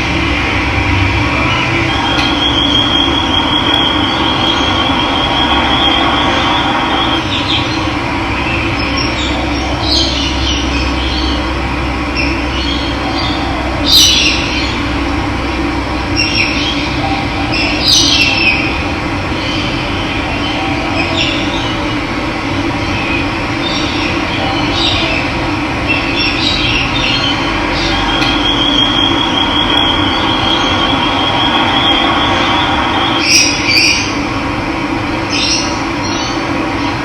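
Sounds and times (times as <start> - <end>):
birds calling: 0.0 - 15.3, 16.0 - 34.3.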